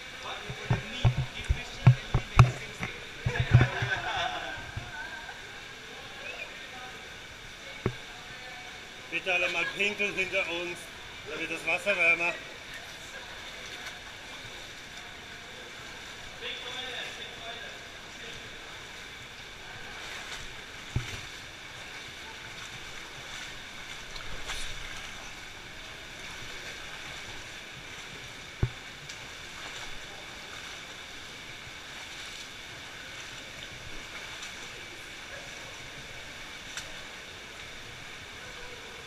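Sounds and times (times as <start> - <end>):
water sloshing and splashing: 0.0 - 6.2, 7.4 - 39.0
rush of moving water: 0.0 - 39.0.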